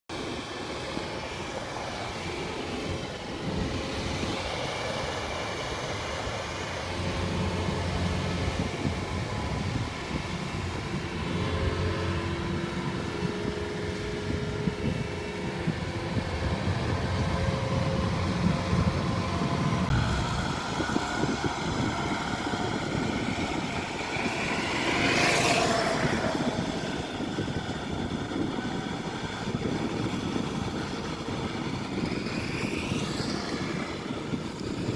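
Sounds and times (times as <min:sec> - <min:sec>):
combine harvester engine running: 0:00.1 - 0:34.9.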